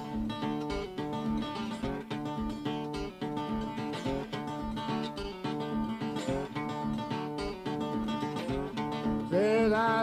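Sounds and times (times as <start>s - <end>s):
acoustic blues guitar: 0.0s - 10.0s.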